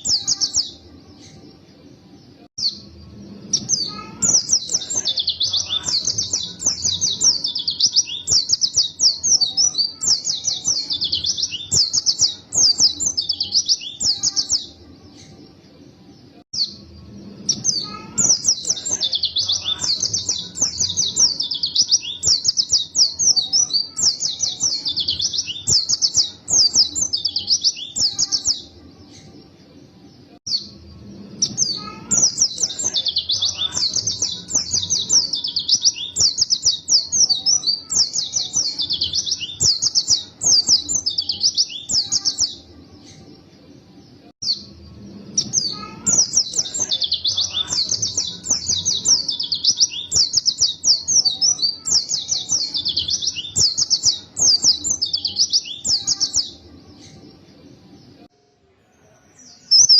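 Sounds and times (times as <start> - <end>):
bird twittering song: 0.0 - 29.6, 30.2 - 43.5, 44.4 - 58.2, 59.4 - 59.9.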